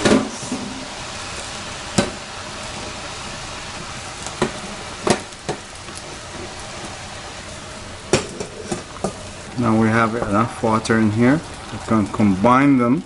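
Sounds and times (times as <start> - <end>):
meat sizzling in a pan: 0.0 - 13.0
water boiling in a pot: 0.0 - 13.0.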